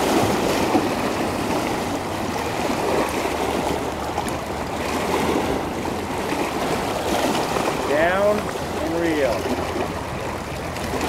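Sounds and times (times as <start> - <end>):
river water splashing against rocks: 0.0 - 11.0.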